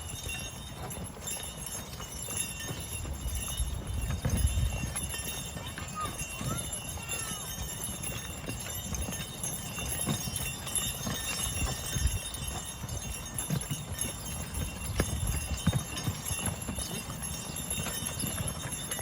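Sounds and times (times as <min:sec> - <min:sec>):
horse hoofbeats walking: 0:00.0 - 0:19.0.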